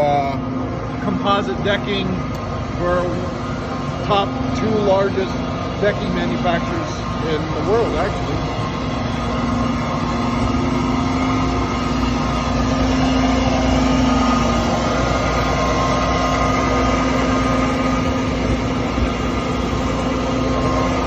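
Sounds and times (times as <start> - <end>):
industrial mill grinding: 0.0 - 21.0.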